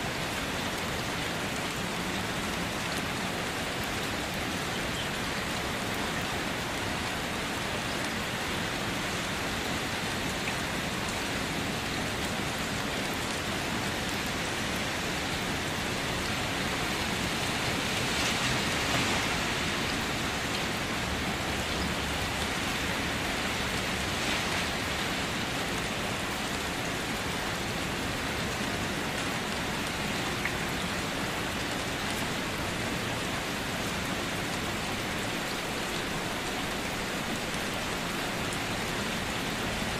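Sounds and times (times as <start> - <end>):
rain splashing on wet surface: 0.0 - 39.9.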